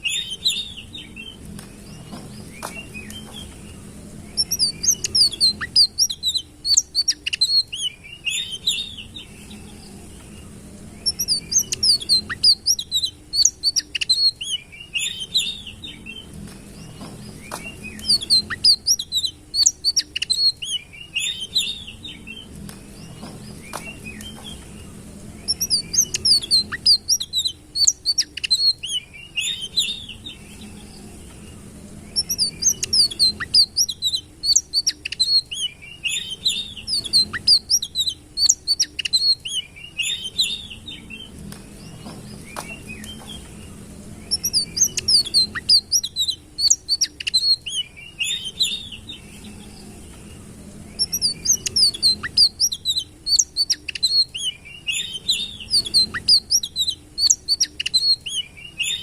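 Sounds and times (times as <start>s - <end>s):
faint low hum: 0.0s - 59.0s
songbird chirping: 0.0s - 59.0s.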